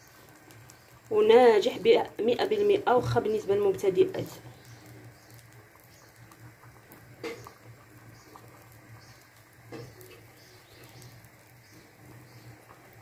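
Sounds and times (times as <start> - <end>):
batter ticking and popping in pan: 0.0 - 13.0
low steady hum: 0.0 - 13.0.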